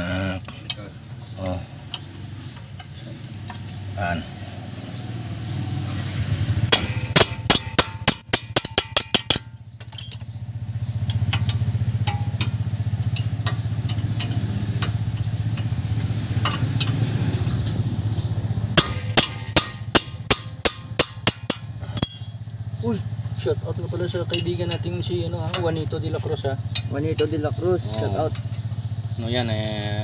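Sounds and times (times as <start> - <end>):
hand tools clinking on metal: 0.0 - 3.8, 6.7 - 17.8, 18.8 - 30.0.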